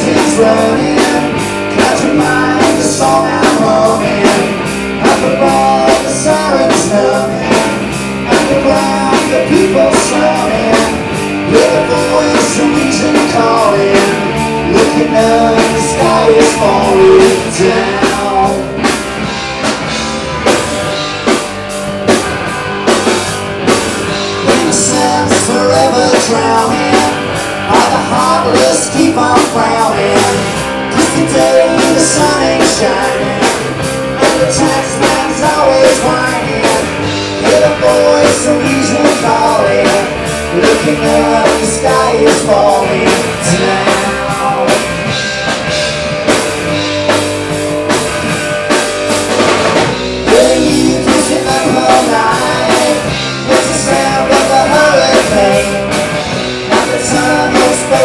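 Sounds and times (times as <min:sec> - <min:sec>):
person singing: 0:00.0 - 0:18.9, 0:24.4 - 0:45.2, 0:50.2 - 0:58.0
bass guitar: 0:00.0 - 0:58.0
drum kit beat: 0:00.0 - 0:58.0
electric guitar: 0:00.0 - 0:58.0.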